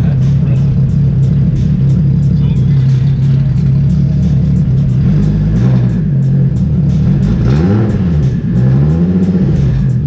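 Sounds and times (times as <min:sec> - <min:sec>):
car engine revving: 0:00.0 - 0:10.0
music with a steady beat: 0:00.0 - 0:10.0.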